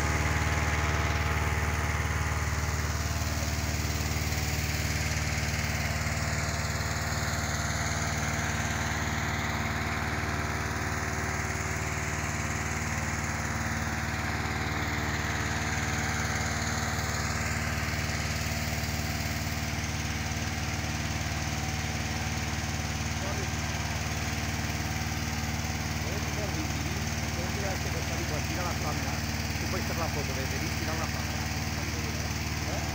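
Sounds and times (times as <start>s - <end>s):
petrol engine fan drone: 0.0s - 32.9s.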